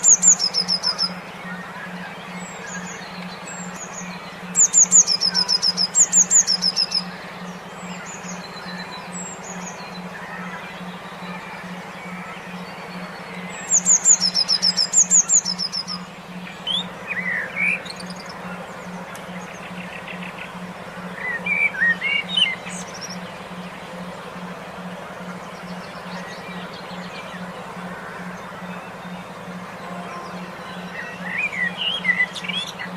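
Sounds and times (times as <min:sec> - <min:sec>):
low pulsing tone: 0:00.0 - 0:32.9
songbirds chirping: 0:00.0 - 0:32.9.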